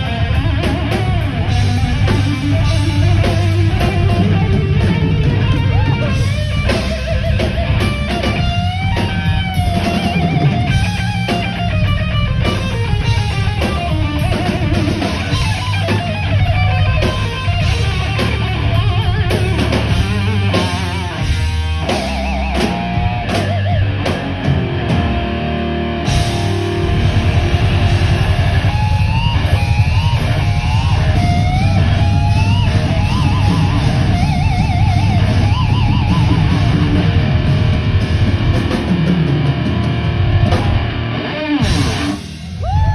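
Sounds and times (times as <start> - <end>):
distorted electric guitar lead: 0.0 - 42.9
heavy metal band playing live: 0.0 - 42.9.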